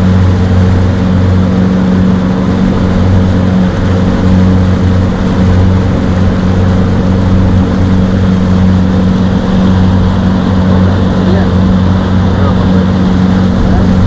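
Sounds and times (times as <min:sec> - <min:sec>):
motorboat engine humming: 0:00.0 - 0:14.0
rushing water noise: 0:00.0 - 0:14.0.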